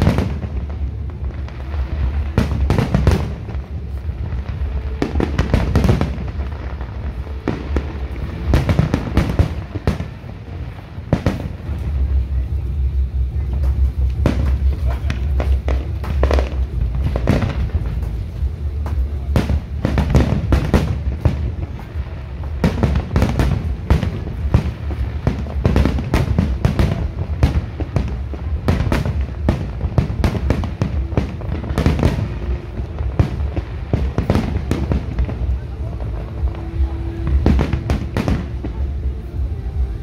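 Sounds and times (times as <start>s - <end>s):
firework shells bursting: 0.0s - 39.0s
low rumble: 0.0s - 40.0s.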